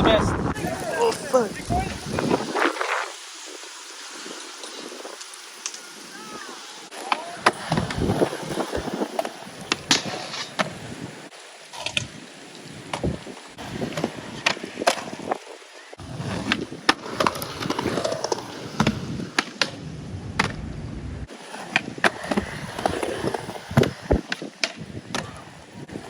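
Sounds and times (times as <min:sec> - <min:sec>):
skateboard rolling on wet concrete: 0:00.0 - 0:26.0
skateboard clacking on ground: 0:04.4 - 0:20.6, 0:21.3 - 0:26.0.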